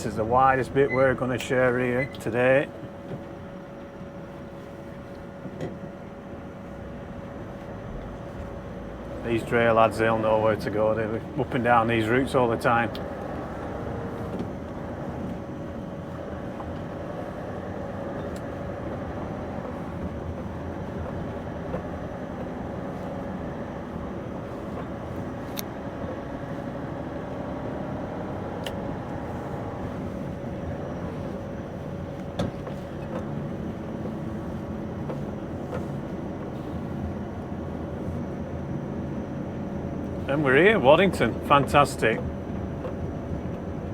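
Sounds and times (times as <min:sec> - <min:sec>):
diesel lorry engine running: 0:00.0 - 0:43.9
road noise: 0:00.0 - 0:43.9.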